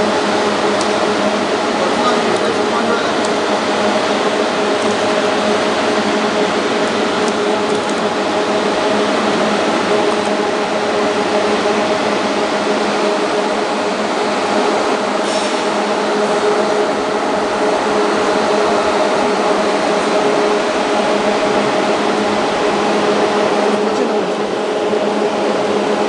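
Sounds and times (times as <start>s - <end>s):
labeling machine running: 0.0s - 26.0s.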